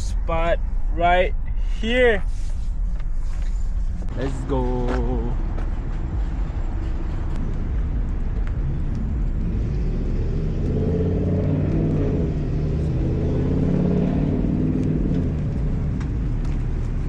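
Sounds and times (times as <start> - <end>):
car engine running slowly: 0.0 - 17.0
steady low rumble: 0.0 - 17.0.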